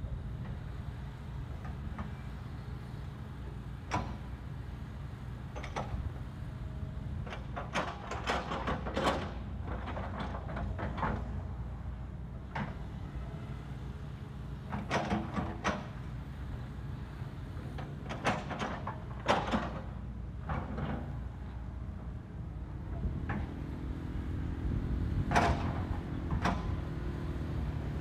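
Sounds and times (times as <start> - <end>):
excavator engine droning: 0.0 - 28.0.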